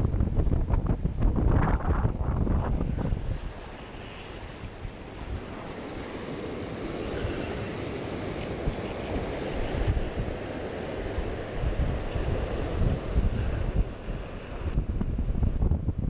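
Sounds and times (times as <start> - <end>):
surf breaking over rocks: 0.6 - 15.7.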